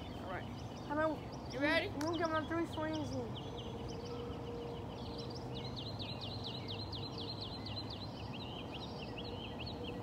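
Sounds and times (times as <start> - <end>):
bird chirping: 0.0 - 10.0
low outdoor hum: 0.0 - 10.0.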